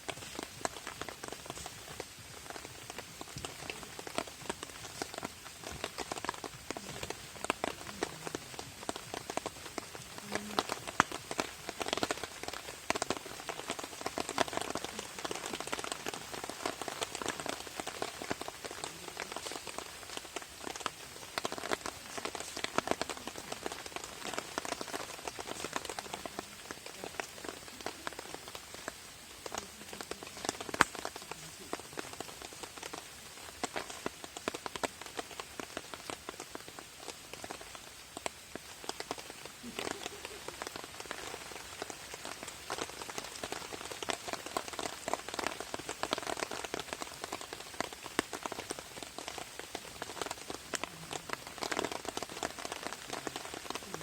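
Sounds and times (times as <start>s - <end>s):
rain pattering on a tarp: 0.0s - 54.0s.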